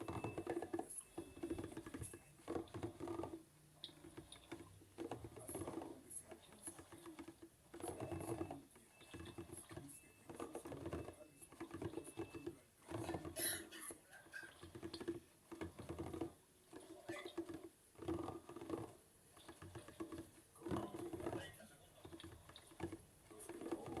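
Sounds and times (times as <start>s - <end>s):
washing machine swishing water: 0.0s - 24.0s.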